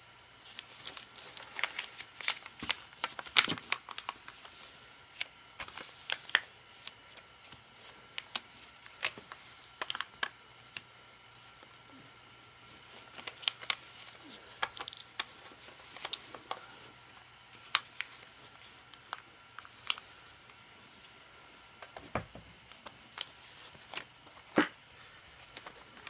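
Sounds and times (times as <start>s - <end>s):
paper rustling and crackling: 0.4s - 10.8s, 12.6s - 21.2s, 21.9s - 24.7s, 25.3s - 26.0s.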